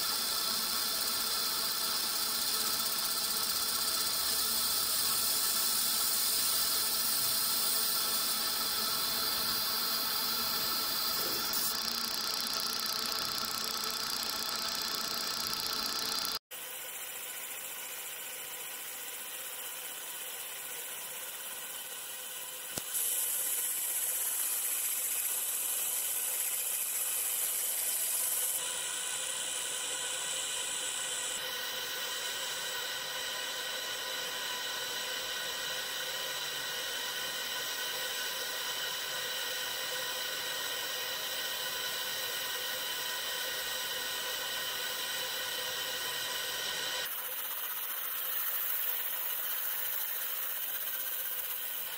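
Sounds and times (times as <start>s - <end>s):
laser engraver hiss and whine: 0.0s - 51.9s.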